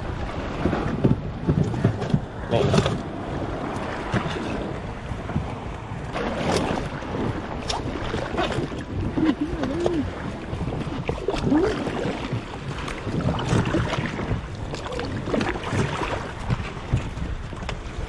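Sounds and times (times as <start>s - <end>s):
water sloshing around hull: 0.0s - 18.0s
wind buffeting microphone: 0.0s - 18.0s.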